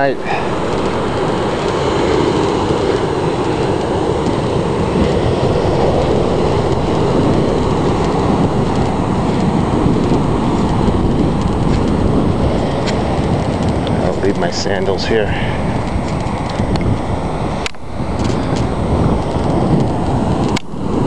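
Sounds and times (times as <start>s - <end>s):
ocean surf breaking: 0.0s - 21.0s.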